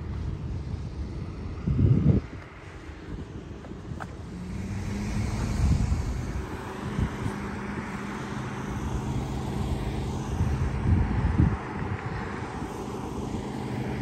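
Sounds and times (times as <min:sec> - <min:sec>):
vehicle passing on wet road: 0:02.3 - 0:14.0.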